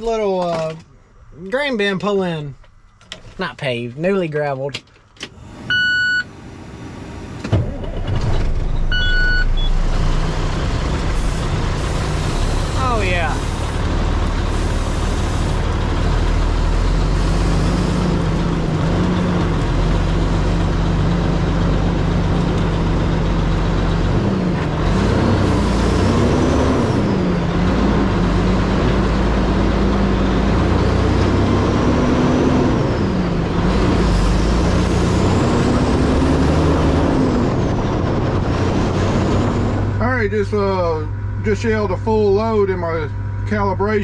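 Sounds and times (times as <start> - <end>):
diesel truck engine running: 5.4 - 44.0.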